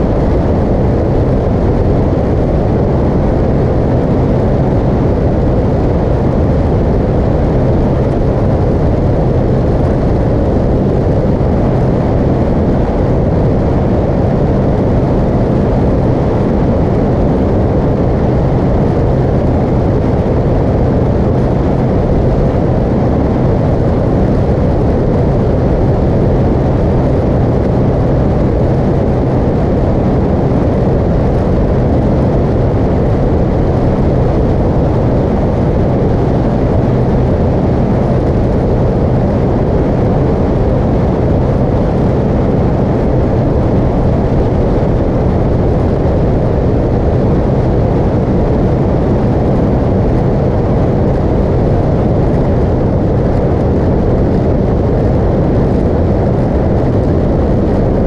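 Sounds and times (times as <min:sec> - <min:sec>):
motorcycle engine drone: 0:00.0 - 0:58.0
wind noise: 0:00.0 - 0:58.0.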